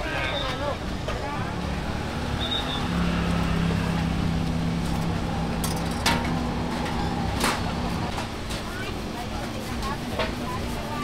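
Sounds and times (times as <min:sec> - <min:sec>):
market background noise: 0:00.0 - 0:11.0.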